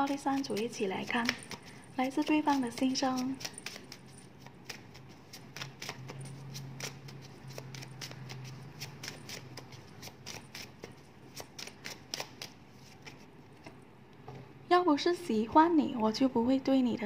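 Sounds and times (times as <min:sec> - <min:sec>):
paper cards clicking and tapping: 0:00.0 - 0:13.8
low steady hum: 0:00.0 - 0:17.0.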